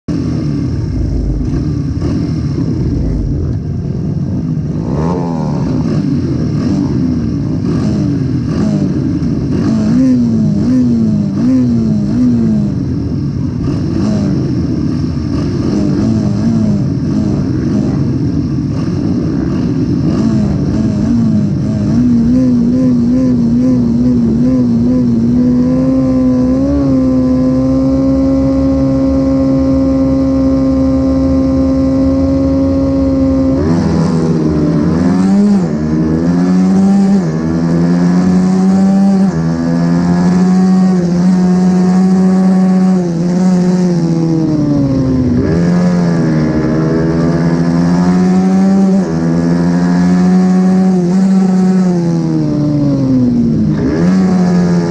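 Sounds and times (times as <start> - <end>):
motorcycle engine revving: 0.0 - 54.9
other motorcycle engines: 0.0 - 54.9.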